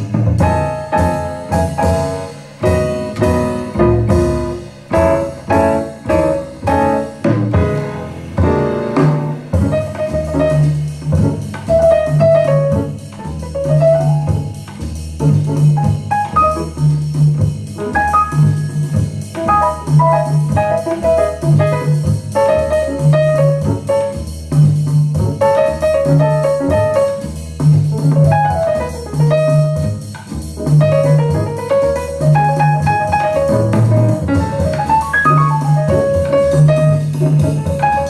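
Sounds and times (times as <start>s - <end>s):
jazz blues music: 0.0s - 38.0s.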